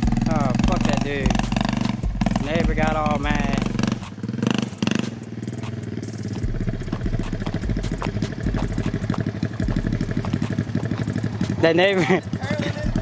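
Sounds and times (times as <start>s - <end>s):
atv engine putter: 0.0s - 13.0s.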